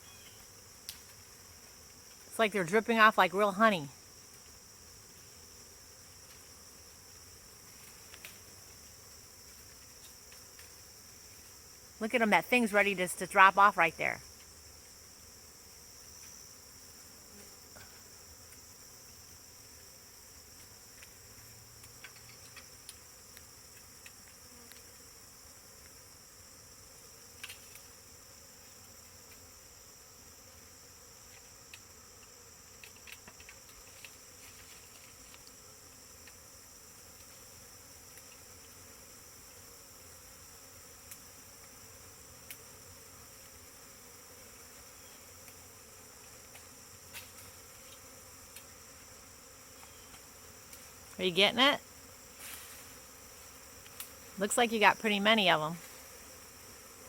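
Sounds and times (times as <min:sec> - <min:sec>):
high insect buzz: 0:00.0 - 0:57.0.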